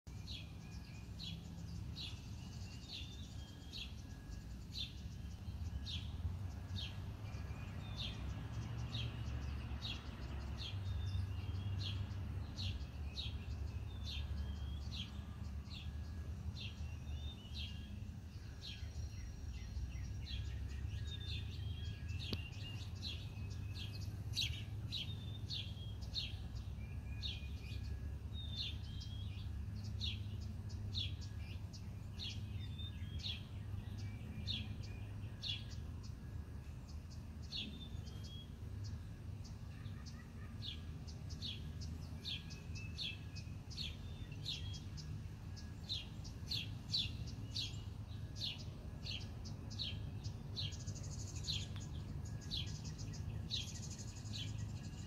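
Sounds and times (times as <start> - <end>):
bird chirping: 0.1 - 55.0
low steady rumble: 0.1 - 55.0.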